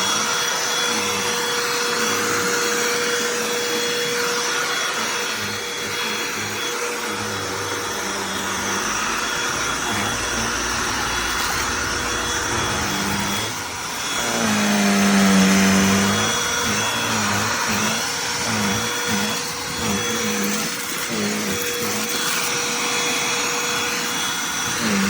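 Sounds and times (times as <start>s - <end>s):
handheld vacuum running: 0.0s - 25.0s.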